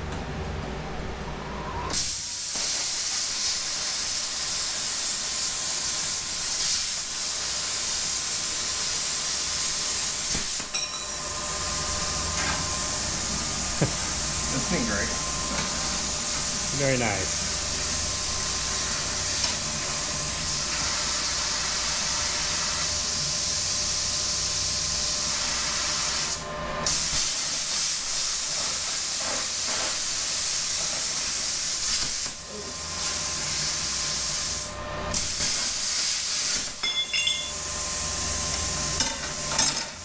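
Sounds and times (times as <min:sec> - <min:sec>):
plasma cutter hissing: 0:01.9 - 0:36.8.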